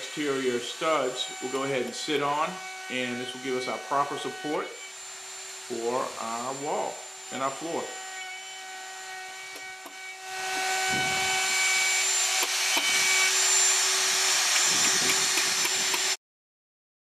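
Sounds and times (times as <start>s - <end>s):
power tool cutting wood: 0.0s - 16.2s.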